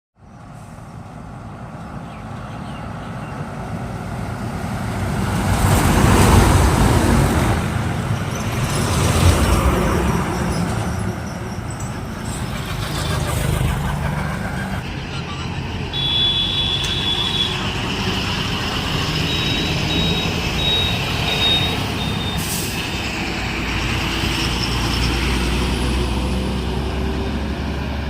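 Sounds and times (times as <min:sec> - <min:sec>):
heavy truck engine and tyres: 0:00.2 - 0:28.0.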